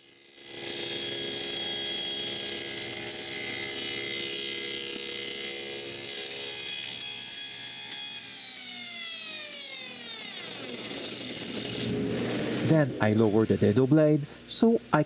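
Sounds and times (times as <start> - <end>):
table saw cutting wood: 0.0 - 14.1.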